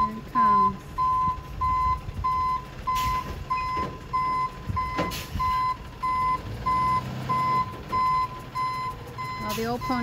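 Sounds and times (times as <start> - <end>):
reversing alarm beeping: 0.0 - 10.0
truck engine rumble: 0.0 - 10.0.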